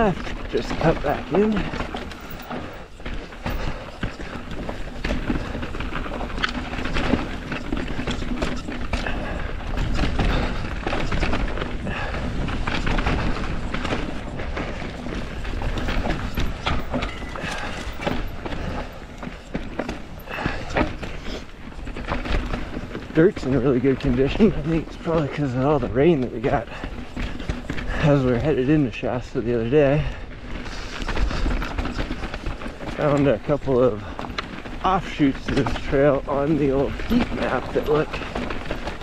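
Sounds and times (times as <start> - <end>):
bike rattling over bumps: 0.0 - 39.0
bike tyres crunching on dirt: 0.0 - 39.0.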